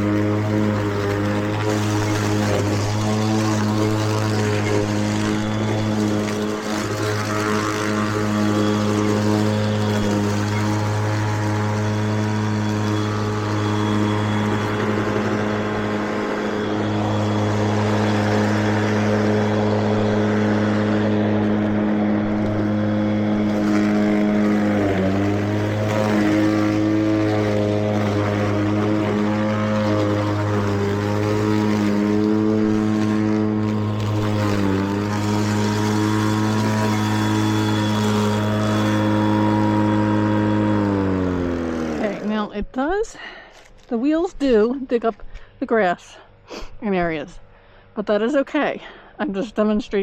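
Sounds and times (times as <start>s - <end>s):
electric mower motor humming: 0.0s - 46.0s.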